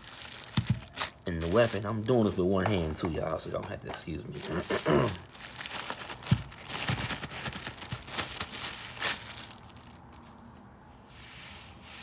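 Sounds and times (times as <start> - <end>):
packaging crinkling and rustling: 0.0 - 10.5.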